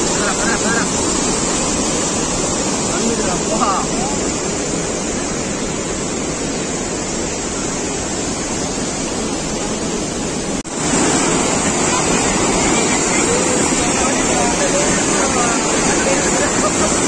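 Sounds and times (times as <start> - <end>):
floodwater rushing over rocks: 0.0 - 17.0.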